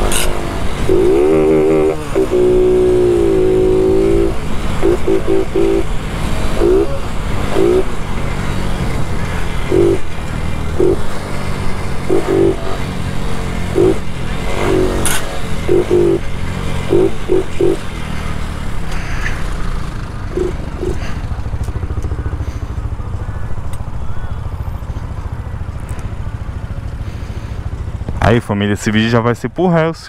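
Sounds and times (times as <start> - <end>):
motorcycle engine idling: 0.0 - 29.3.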